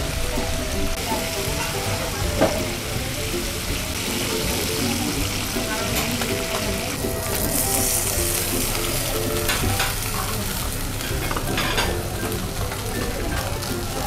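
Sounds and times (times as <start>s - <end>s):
background music: 0.0s - 14.0s
steak sizzling in hot oil: 1.0s - 14.0s.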